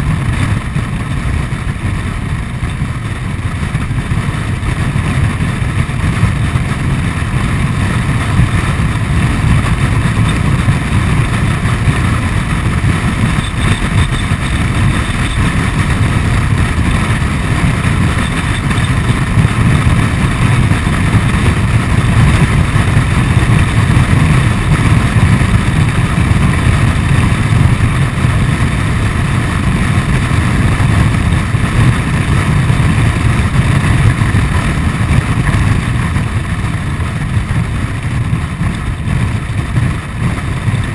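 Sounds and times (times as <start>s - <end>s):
scooter engine and road noise: 0.0s - 40.9s
wind buffeting microphone: 0.0s - 40.9s.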